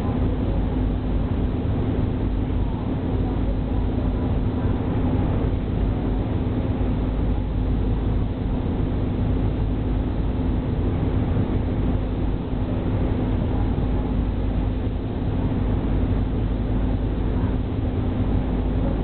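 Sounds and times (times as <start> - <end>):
constant engine hum: 0.0 - 19.0
ship engines rumbling: 0.0 - 19.0.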